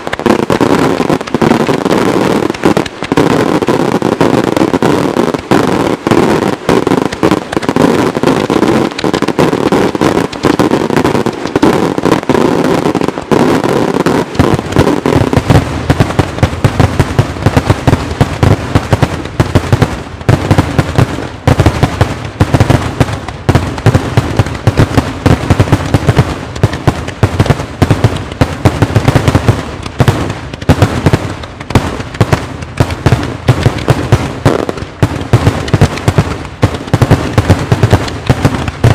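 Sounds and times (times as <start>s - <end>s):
fireworks bursting with sharp bangs: 0.0s - 38.9s.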